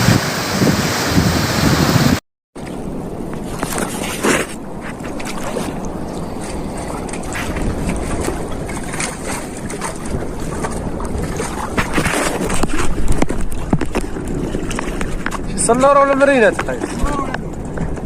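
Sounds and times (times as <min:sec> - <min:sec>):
wind buffeting microphone: 0:00.0 - 0:18.0
sea water lapping: 0:02.6 - 0:18.0
small splashes and knocks: 0:03.4 - 0:18.0.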